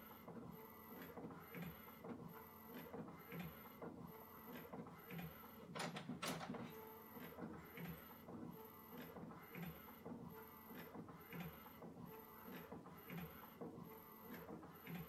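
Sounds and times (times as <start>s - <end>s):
inkjet printer printing: 0.0s - 15.0s.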